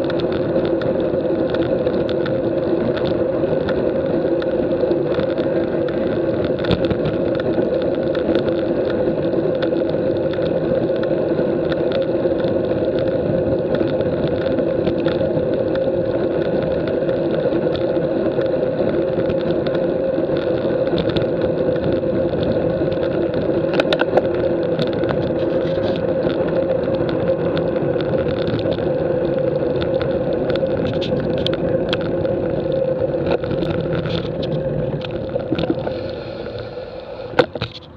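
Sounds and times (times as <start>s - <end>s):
bicycle tyres road noise: 0.0s - 37.9s
constant drone: 0.0s - 37.9s
wind noise: 0.0s - 37.9s.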